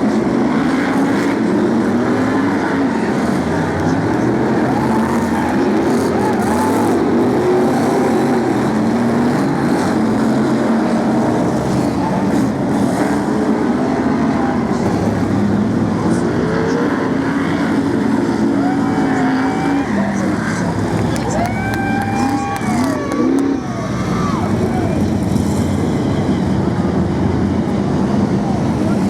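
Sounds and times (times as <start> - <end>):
racing car engines running hard: 0.0 - 29.0.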